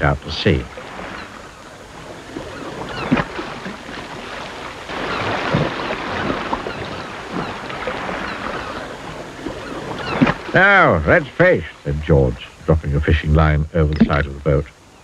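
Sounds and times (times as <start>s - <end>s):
water lapping: 0.0s - 12.8s
waves washing: 0.0s - 14.6s.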